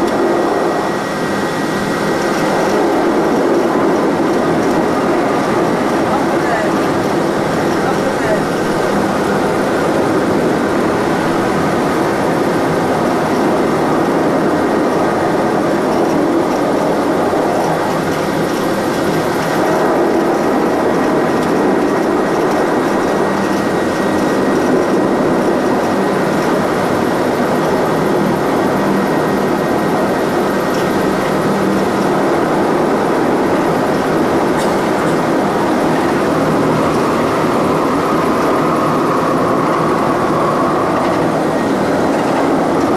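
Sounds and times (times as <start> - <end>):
hovercraft engines running loudly: 0.0 - 42.9.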